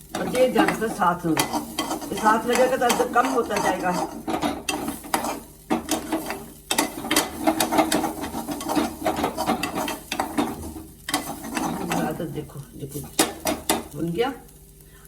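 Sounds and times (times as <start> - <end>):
spatula scraping a pan: 0.0 - 14.0.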